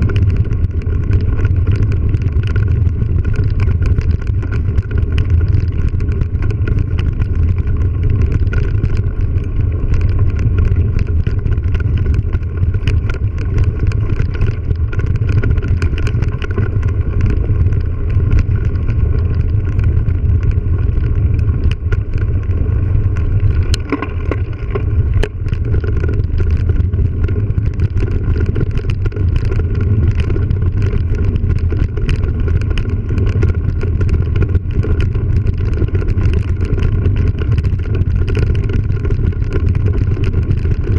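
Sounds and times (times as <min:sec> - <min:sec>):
bike clicks and rattles: 0:00.0 - 0:40.9
bike tyre noise on dirt: 0:00.0 - 0:40.9
wind rumble on microphone: 0:00.0 - 0:40.9.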